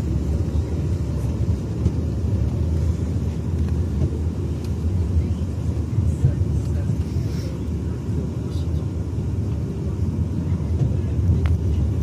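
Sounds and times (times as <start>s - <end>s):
vehicle interior rumble: 0.0s - 12.0s.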